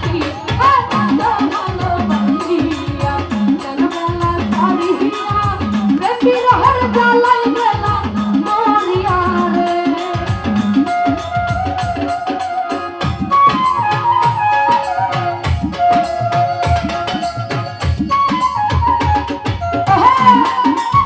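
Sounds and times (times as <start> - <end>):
hand drum rhythm: 0.0 - 21.0
held melody line: 0.0 - 21.0.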